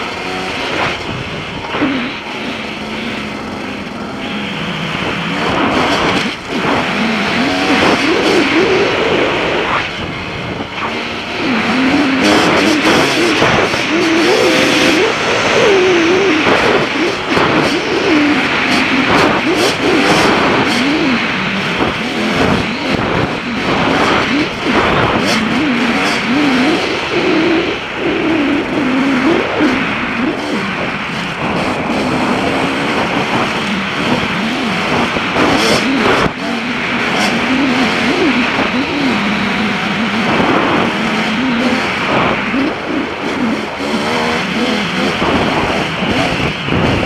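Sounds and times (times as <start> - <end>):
dirt bike engine revving: 0.0 - 47.0
wind noise on microphone: 0.0 - 47.0.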